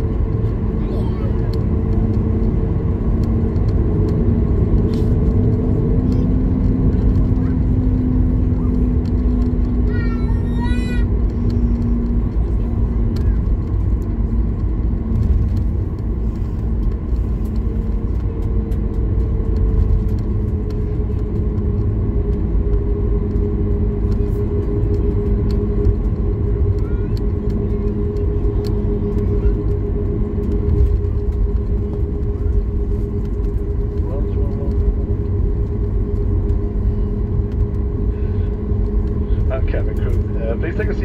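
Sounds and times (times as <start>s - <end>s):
jet engine hum: 0.0s - 41.0s
low airframe rumble: 0.0s - 41.0s.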